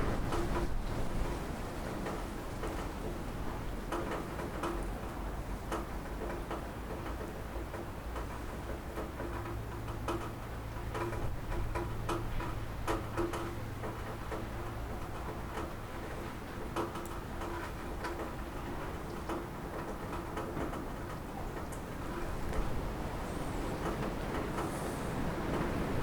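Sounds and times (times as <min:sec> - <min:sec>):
rain pattering on a roof: 0:00.0 - 0:26.0.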